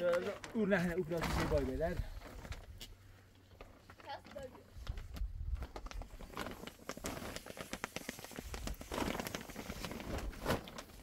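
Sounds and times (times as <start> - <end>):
plastic sheeting crinkling: 0.0 - 2.8, 3.5 - 11.0.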